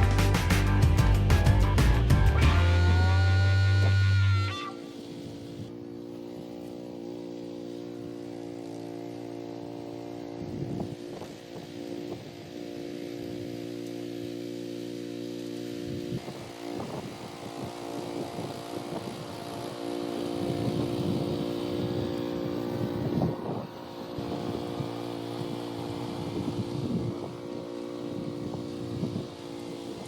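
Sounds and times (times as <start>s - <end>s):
rototiller engine running: 0.0s - 30.0s.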